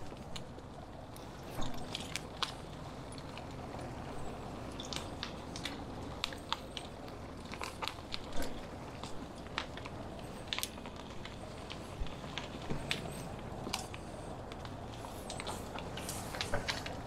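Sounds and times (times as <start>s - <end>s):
bicycle tyres crunching on gravel: 0.0s - 17.0s.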